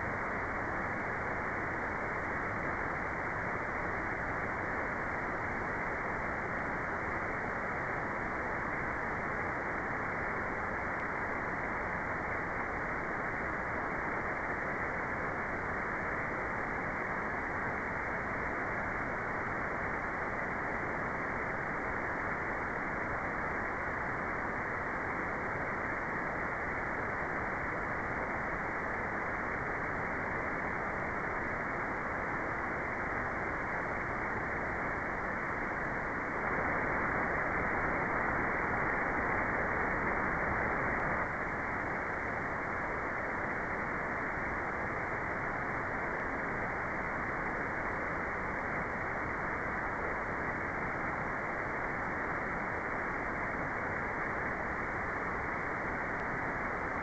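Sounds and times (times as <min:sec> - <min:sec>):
muffled white noise: 0:00.0 - 0:57.0.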